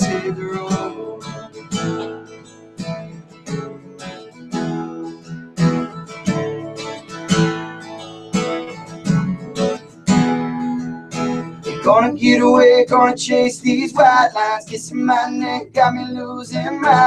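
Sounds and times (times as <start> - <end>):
acoustic guitars strumming chords: 0.0 - 17.0.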